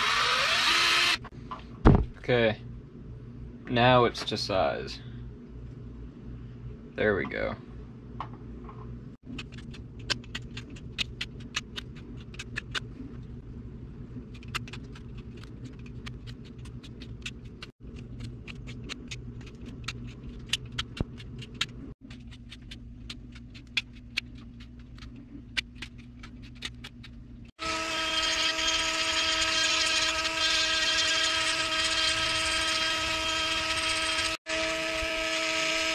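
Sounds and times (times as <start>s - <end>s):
steady low hum: 1.2s - 35.9s.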